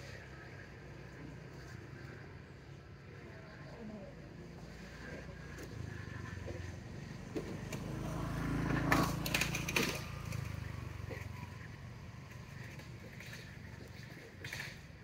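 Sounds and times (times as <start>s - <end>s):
passing vehicle engine hum: 0.0s - 15.0s.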